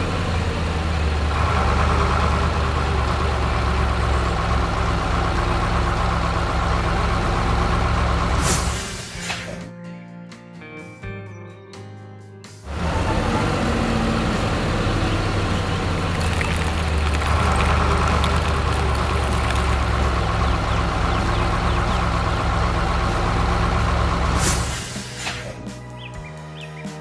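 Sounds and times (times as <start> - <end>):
truck diesel engine rumbling: 0.0 - 9.2, 12.7 - 25.5.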